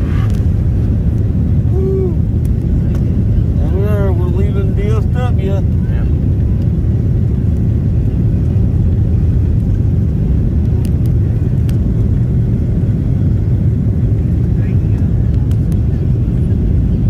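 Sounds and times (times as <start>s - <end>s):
air rushing along fuselage: 0.0s - 17.0s
aircraft cabin engine rumble: 0.0s - 17.0s.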